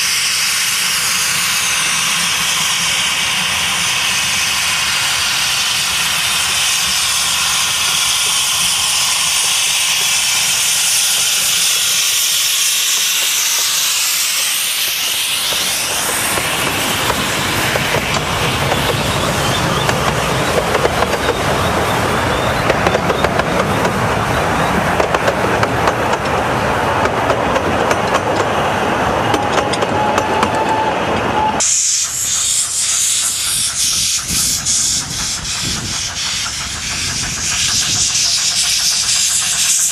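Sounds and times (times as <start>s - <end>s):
steam locomotive hissing steam: 0.0s - 39.9s
coaches rattling over rails: 0.9s - 39.9s.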